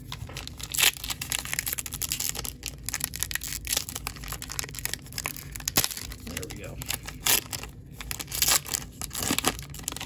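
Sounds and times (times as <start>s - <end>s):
wrapper tearing and crinkling: 0.0s - 10.0s.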